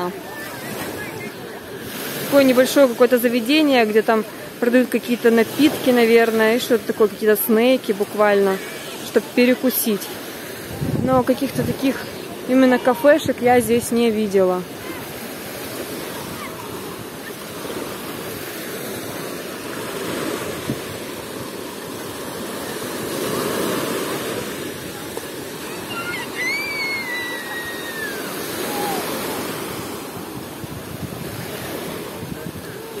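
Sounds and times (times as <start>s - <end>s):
waves breaking on sandy shore: 0.0s - 33.0s.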